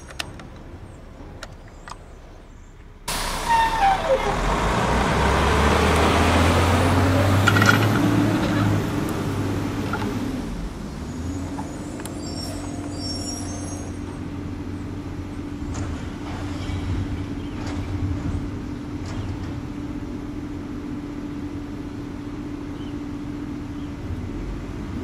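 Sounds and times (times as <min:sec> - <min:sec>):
heavy vehicle engine humming: 0:00.0 - 0:25.0.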